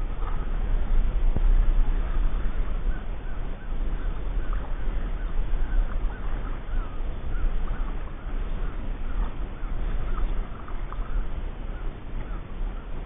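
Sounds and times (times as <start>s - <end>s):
wind noise on microphone: 0.0s - 13.0s
marsh birds chirping: 2.0s - 13.0s.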